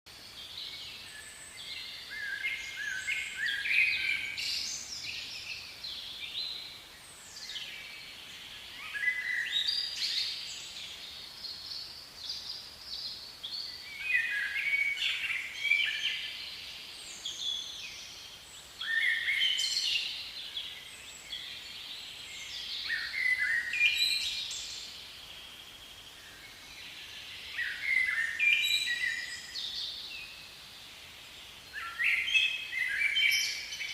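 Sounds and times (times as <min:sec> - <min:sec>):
light background hiss: 0:00.1 - 0:33.9
songbird singing: 0:00.1 - 0:33.9.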